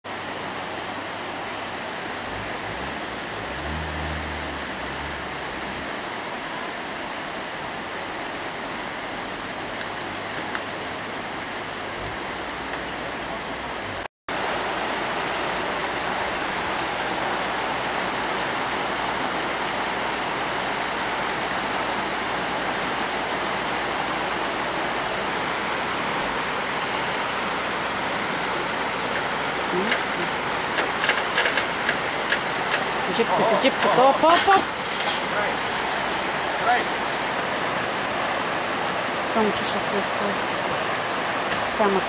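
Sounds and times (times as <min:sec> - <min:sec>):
stream rushing over boulders: 0:00.1 - 0:42.0.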